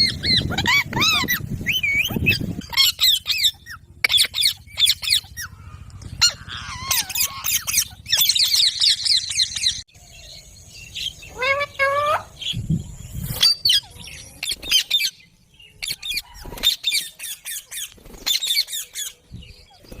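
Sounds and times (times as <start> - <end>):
parakeets squawking and chattering: 0.0 - 20.0.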